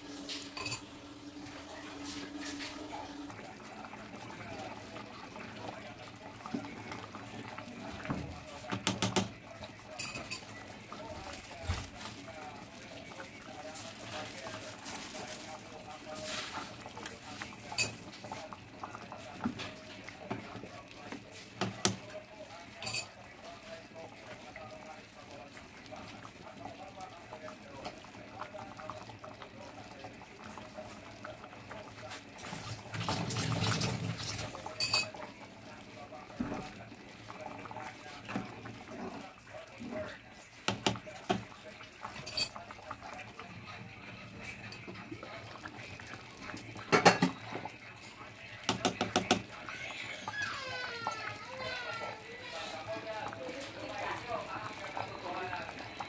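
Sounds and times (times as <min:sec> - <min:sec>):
porridge bubbling: 0:00.0 - 0:56.0.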